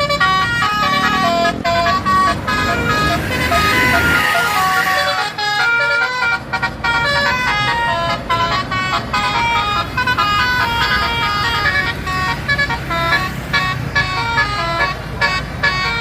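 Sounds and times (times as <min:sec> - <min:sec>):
bus engine rumble: 0:00.0 - 0:16.0
bus horn playing melody: 0:00.0 - 0:16.0.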